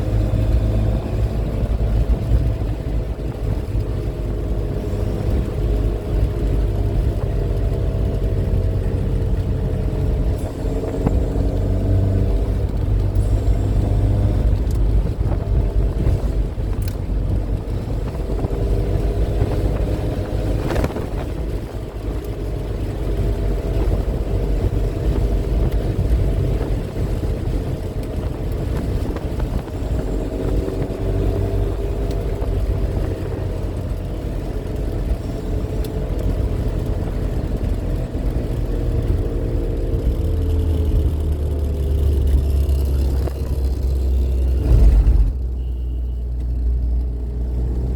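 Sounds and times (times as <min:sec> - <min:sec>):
car engine running: 0:00.0 - 0:47.9
road and wind rumble: 0:00.0 - 0:47.9.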